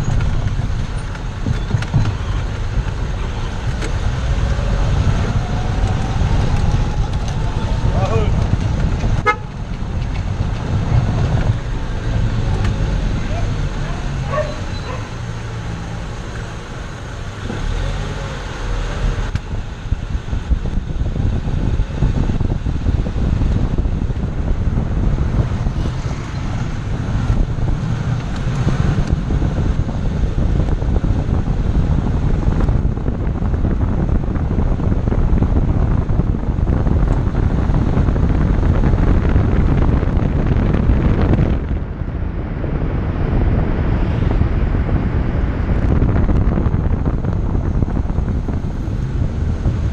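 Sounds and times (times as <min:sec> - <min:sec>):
road rumble: 0:00.0 - 0:49.9
wind buffeting microphone: 0:00.0 - 0:49.9.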